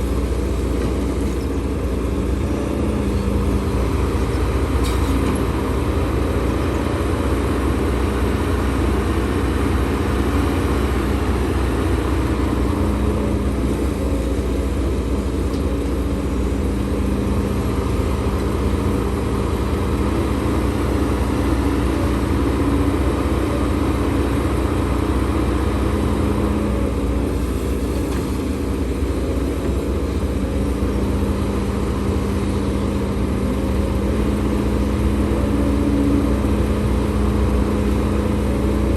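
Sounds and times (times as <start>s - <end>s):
heavy machinery diesel engine humming: 0.0s - 38.9s.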